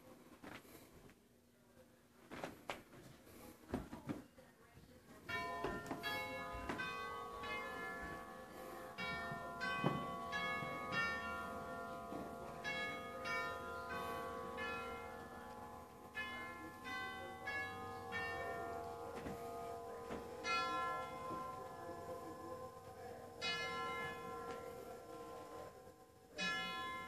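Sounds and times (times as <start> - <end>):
bell-like chimes: 5.3 - 27.0.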